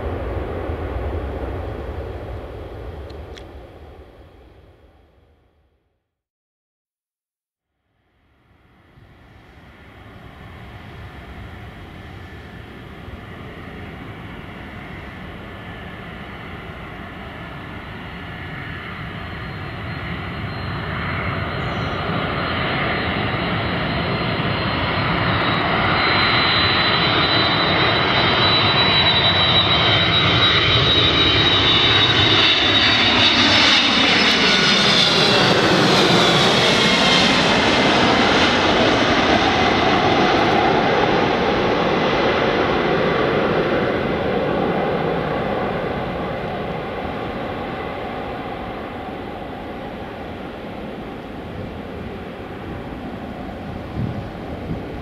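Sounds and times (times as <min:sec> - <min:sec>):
jet airliner passing overhead: 0:00.0 - 0:05.4, 0:08.0 - 0:55.0.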